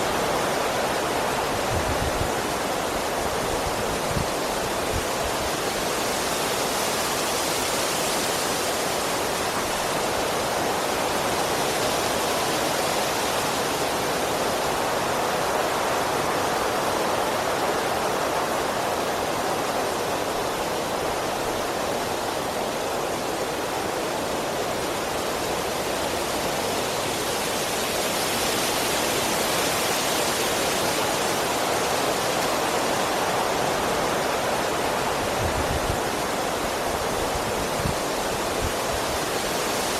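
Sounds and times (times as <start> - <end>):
strong wind rushing through trees: 0.0 - 39.9.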